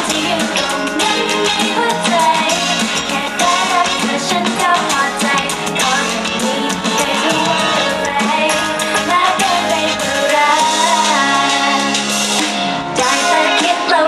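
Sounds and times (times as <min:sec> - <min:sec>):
woman singing into microphone: 0:00.0 - 0:12.2, 0:12.9 - 0:14.0
live pop-rock band playing: 0:00.0 - 0:14.0.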